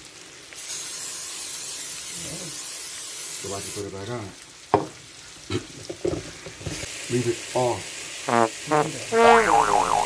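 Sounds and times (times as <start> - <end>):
steak sizzling on hot plate: 0.0 - 8.6.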